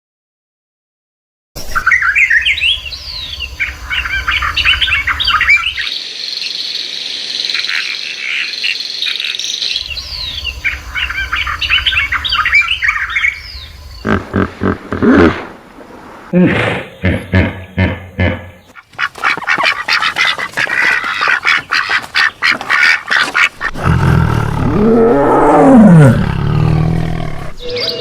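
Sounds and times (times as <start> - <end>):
high buzz of bird calls: 1.6 - 15.5, 16.5 - 28.0
small birds chirping: 1.7 - 15.1, 16.9 - 28.0.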